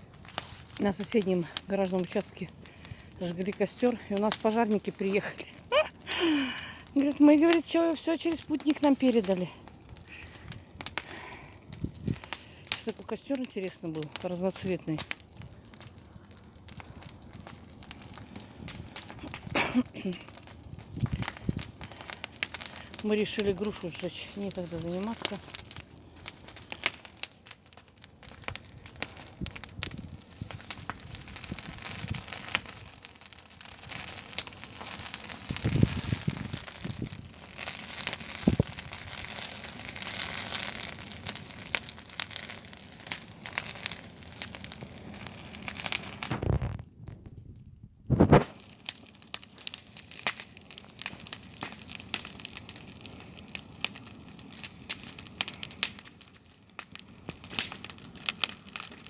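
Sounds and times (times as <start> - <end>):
bonfire crackling and popping: 0.0 - 59.0.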